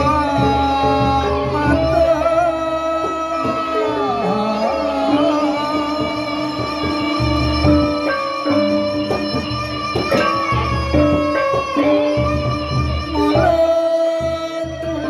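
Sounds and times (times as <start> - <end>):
bamboo flute: 0.0 - 15.0
man singing into a microphone: 0.0 - 15.0.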